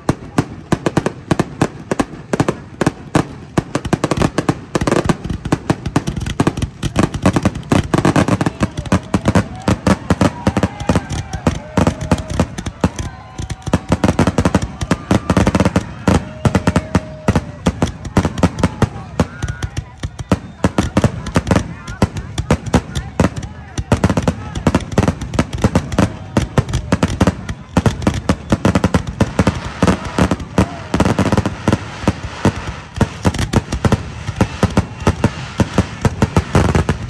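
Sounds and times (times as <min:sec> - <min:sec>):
fireworks bangs and crackle: 0:00.0 - 0:37.0.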